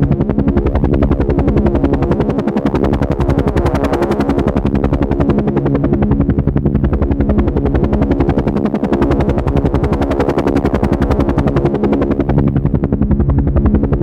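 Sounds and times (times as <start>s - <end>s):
helicopter engine drone: 0.0s - 14.0s
helicopter rotor beating: 0.0s - 14.0s.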